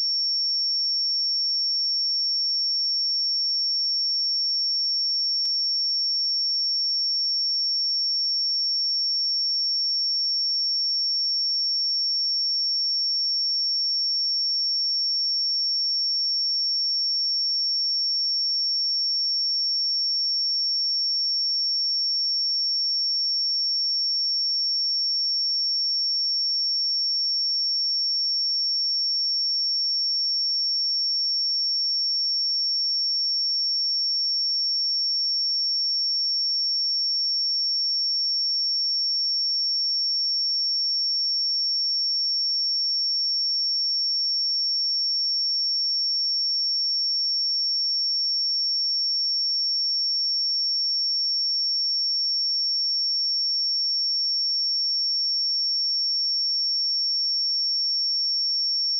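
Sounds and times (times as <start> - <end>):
high-pitched sine test tone: 0.0 - 58.9.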